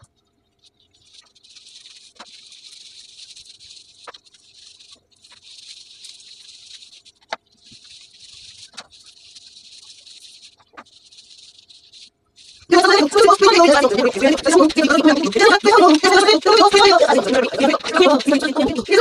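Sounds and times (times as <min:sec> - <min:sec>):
gloved hands rubbing wet hair: 0:00.7 - 0:19.0.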